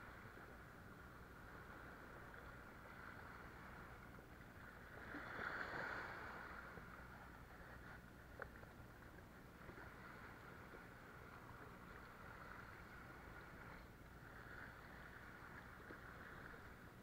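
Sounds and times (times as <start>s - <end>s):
water lapping against rocks: 1.1s - 17.0s.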